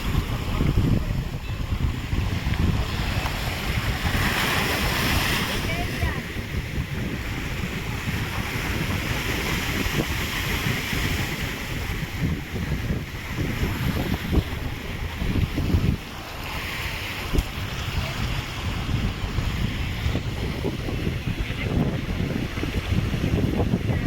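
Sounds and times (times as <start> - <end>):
ocean surf washing: 0.0 - 24.0
wind buffeting microphone: 0.0 - 24.0.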